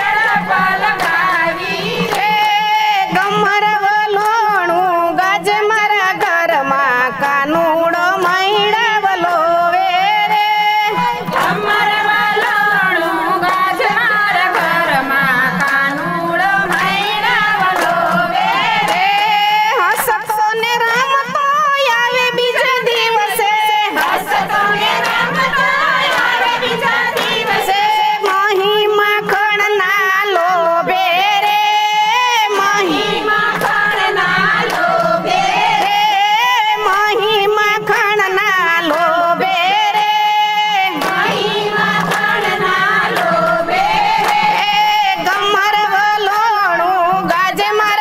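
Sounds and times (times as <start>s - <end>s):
hand clapping: 0.0s - 21.6s, 22.3s - 46.6s
women singing devotional song: 0.0s - 48.0s.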